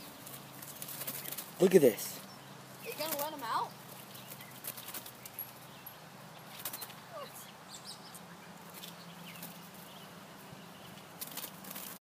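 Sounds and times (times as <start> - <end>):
blue jay calls: 0.0 - 11.7
rustling in netting: 0.0 - 12.0.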